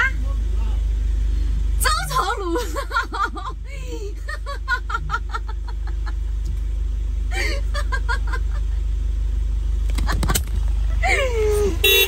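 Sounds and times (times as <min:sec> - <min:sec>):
engine humming from inside cab: 0:00.0 - 0:12.0.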